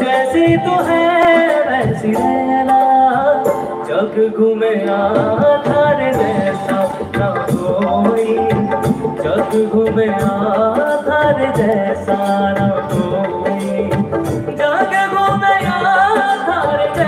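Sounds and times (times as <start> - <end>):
drum and tabla beat: 0.0 - 17.0
live band music over loudspeakers: 0.0 - 17.0.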